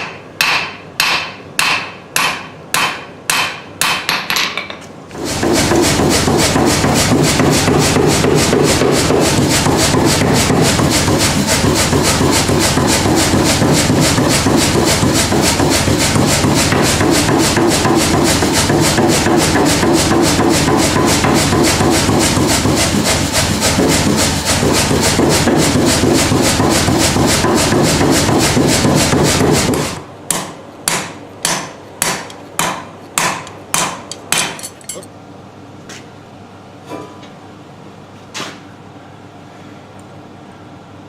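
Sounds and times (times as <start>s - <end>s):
power hammer pounding steel: 0.0s - 4.6s, 5.2s - 34.8s.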